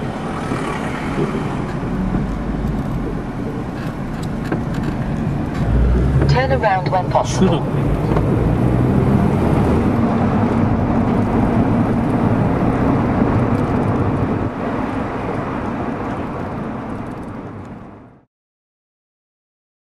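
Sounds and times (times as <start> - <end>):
car road and engine noise: 0.0 - 18.3.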